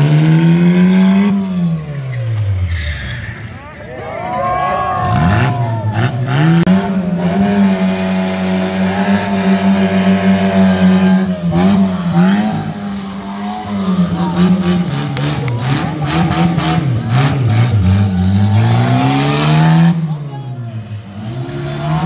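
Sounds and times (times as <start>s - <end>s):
car engine revving high: 0.0s - 2.6s, 5.0s - 22.0s.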